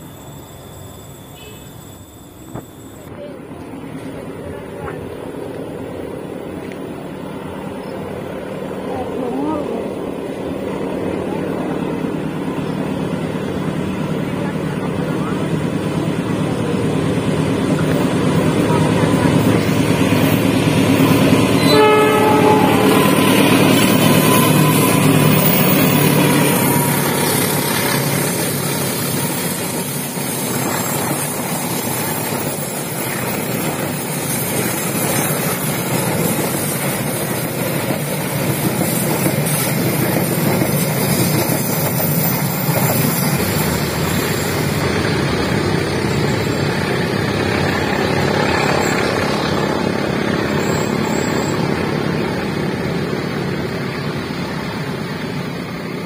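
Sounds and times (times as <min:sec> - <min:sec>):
locomotive engine: 0:00.0 - 0:56.0
wheels rumbling on rails: 0:00.0 - 0:56.0.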